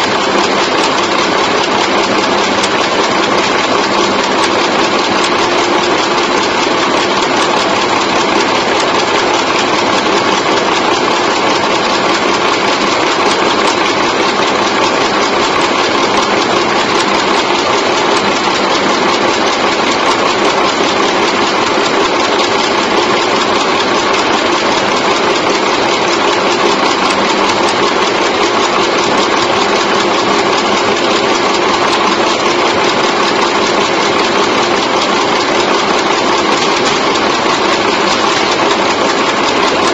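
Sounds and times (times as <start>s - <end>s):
machine clattering: 0.0s - 39.9s.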